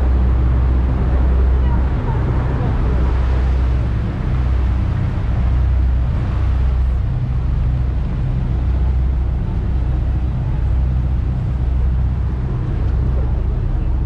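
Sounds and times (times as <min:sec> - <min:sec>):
boat engine drone: 0:00.0 - 0:14.0
water rushing: 0:00.0 - 0:14.0
wind: 0:00.0 - 0:14.0.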